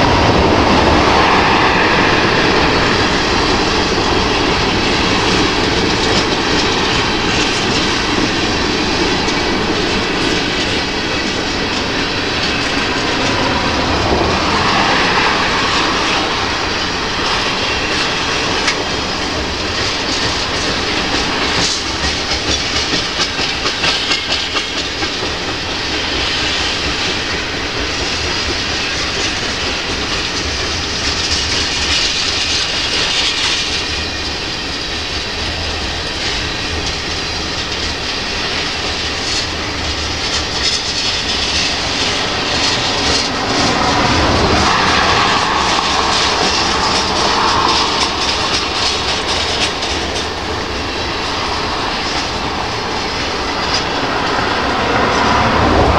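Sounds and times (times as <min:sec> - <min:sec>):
freight train rolling past: 0:00.0 - 0:55.9
wheels clickety-clack on rail joints: 0:00.0 - 0:55.9.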